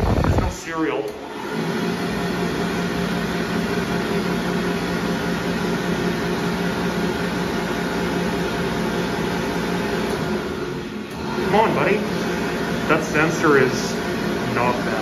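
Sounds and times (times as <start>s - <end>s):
hand dryer blowing air: 0.0s - 15.0s
hand dryer motor hum: 1.0s - 15.0s.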